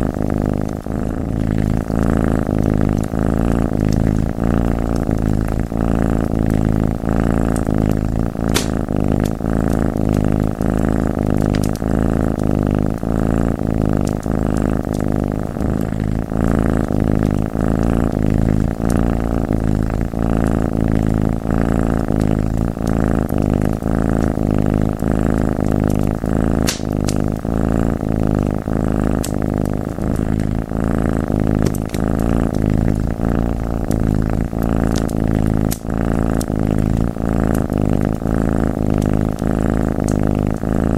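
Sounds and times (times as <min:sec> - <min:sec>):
cat purring: 0:00.0 - 0:40.9
wood fire crackling: 0:00.1 - 0:38.2.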